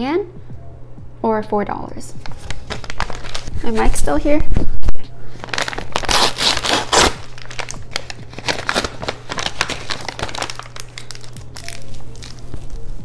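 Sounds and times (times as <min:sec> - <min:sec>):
plastic bag crinkling: 0:02.2 - 0:13.0
plastic film crackling: 0:02.2 - 0:13.0.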